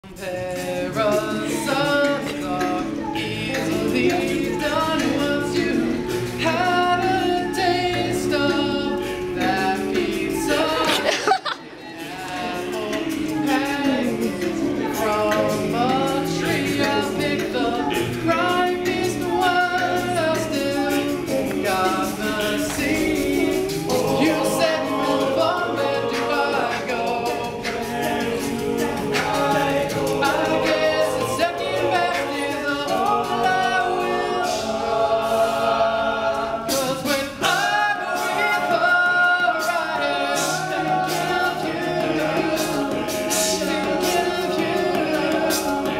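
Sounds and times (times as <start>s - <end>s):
men singing a cappella harmony: 0.0s - 45.9s.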